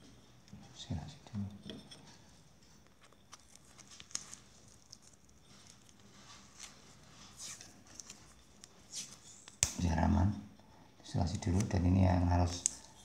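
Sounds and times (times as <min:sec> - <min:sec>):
faint rustling of wires: 0:00.0 - 0:13.0.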